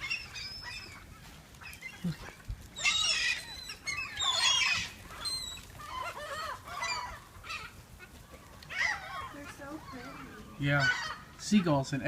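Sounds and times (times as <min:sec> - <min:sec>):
gulls squawking: 0:00.0 - 0:12.0.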